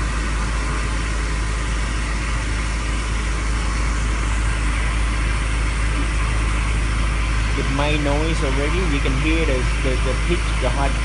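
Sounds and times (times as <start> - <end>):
milling machine running: 0.0 - 11.0.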